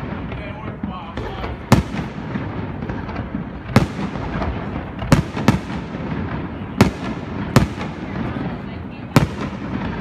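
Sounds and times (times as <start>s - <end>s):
fireworks bursting with booms: 0.0s - 10.0s.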